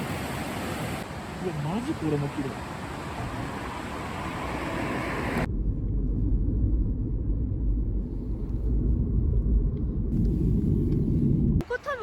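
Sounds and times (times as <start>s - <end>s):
car road rumble from inside: 1.8s - 11.7s.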